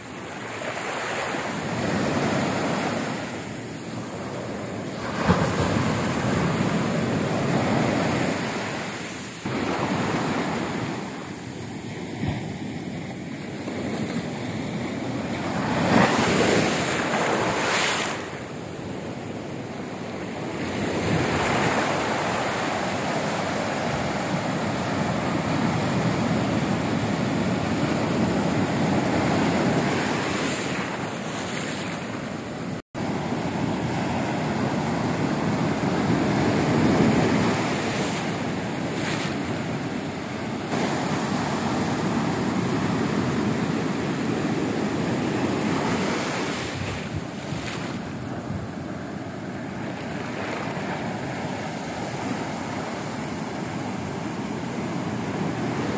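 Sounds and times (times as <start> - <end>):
waves breaking on beach: 0.0 - 55.9.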